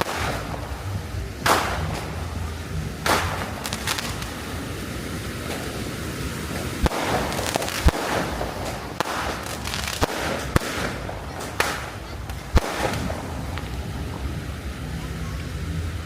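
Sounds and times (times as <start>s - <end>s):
fireworks banging: 0.0s - 16.0s
fireworks crackling: 0.0s - 16.0s.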